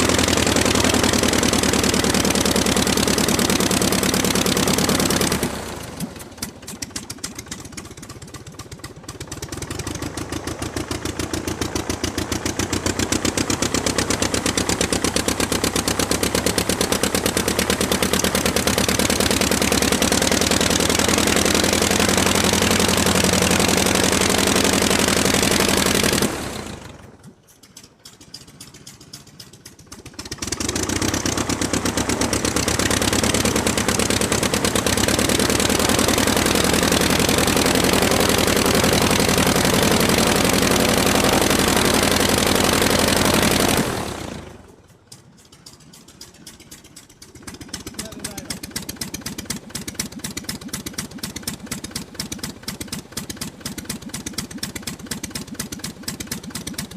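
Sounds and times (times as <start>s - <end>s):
piston aircraft engine running: 0.0s - 56.9s.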